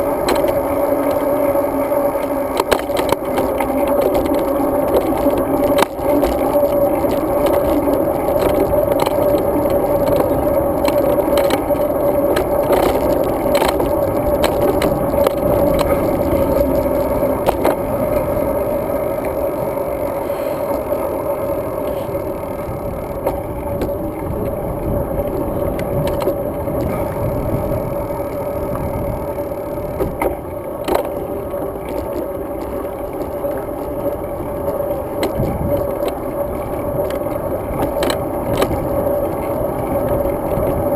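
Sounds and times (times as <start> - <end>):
bicycle knocks and rattles: 0.0 - 18.5, 21.6 - 40.9
bicycle tyre noise: 0.0 - 40.9
wind noise: 0.0 - 40.9.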